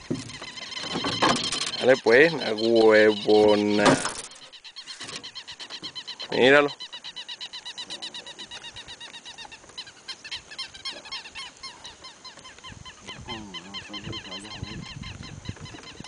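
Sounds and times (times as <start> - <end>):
birds chirping: 0.0 - 16.0
low wavering bird call: 0.0 - 16.0.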